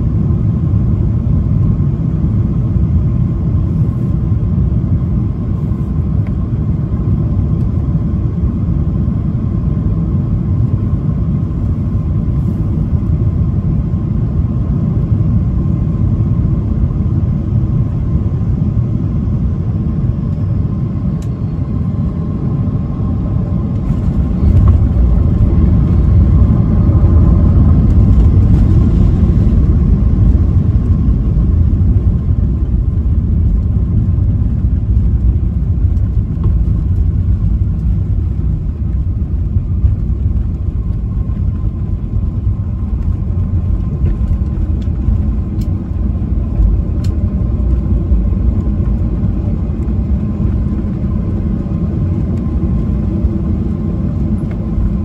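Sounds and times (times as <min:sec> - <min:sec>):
jet engine cabin rumble: 0:00.0 - 0:55.0
airliner touching down: 0:10.2 - 0:55.0.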